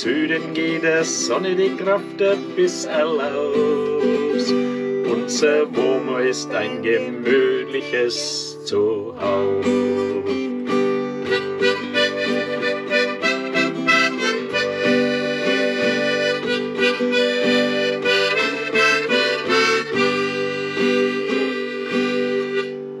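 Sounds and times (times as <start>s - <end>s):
harmonica: 0.0s - 23.0s
strummed acoustic guitar: 0.0s - 23.0s.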